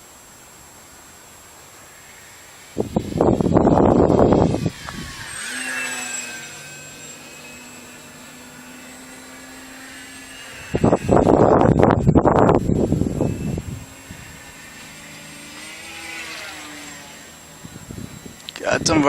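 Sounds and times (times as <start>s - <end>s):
model plane motor whining: 1.4s - 19.0s
wind rushing over microphone: 2.0s - 19.0s.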